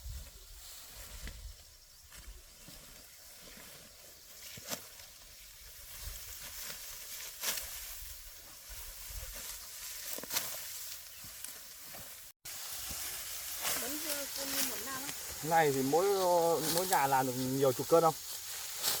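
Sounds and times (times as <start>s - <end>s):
dry rice stalks rustling: 0.0s - 19.0s.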